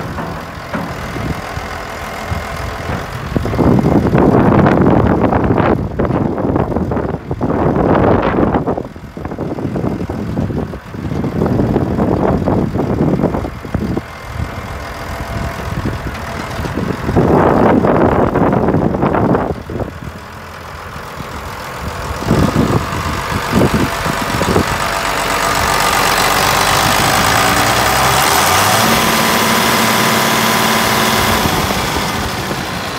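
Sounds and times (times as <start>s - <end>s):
tractor diesel engine idling: 0.0s - 32.9s.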